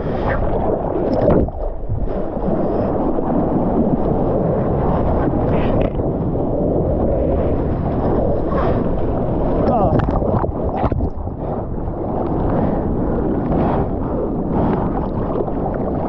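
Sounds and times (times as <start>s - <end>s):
seawater rushing and sloshing: 0.0s - 16.0s.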